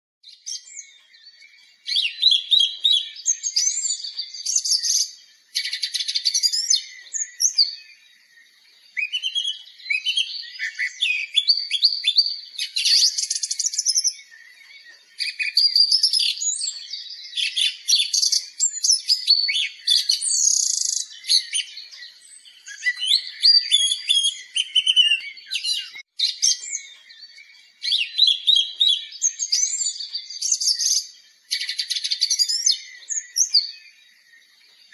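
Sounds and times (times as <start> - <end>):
birds singing: 0.2 - 34.9.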